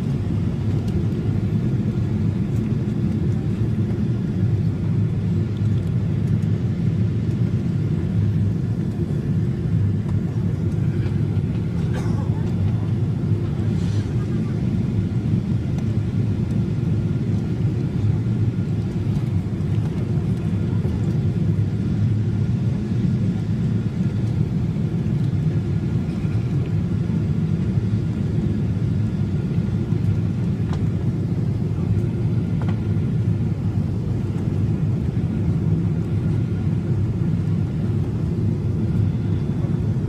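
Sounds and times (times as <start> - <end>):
jet engine cabin rumble: 0.0 - 40.0.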